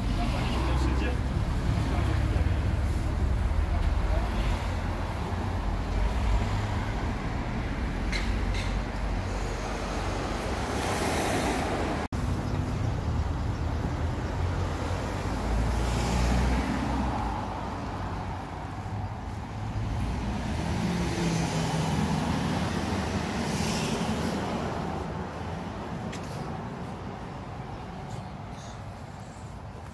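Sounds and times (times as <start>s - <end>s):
cars passing by: 0.0s - 29.9s
low rumble of traffic: 0.0s - 29.9s.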